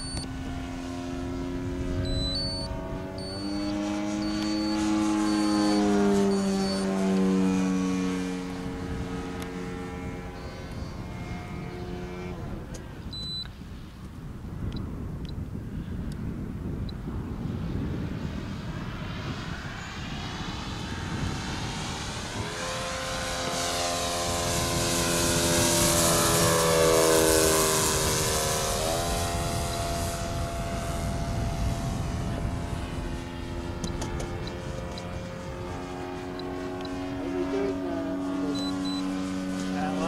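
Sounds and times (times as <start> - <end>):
model plane motor whining: 0.0 - 40.0
wind rumbling on microphone: 0.0 - 40.0.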